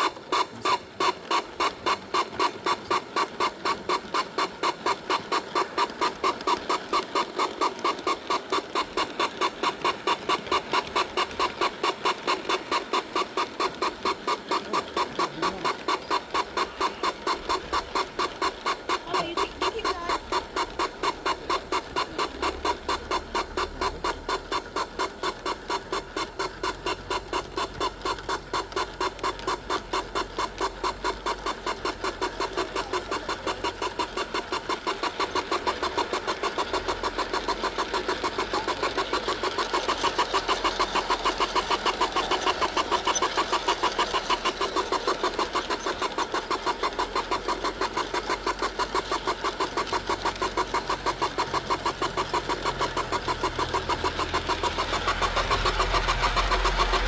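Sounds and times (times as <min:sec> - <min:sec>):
model train clacking: 0:00.0 - 0:57.0.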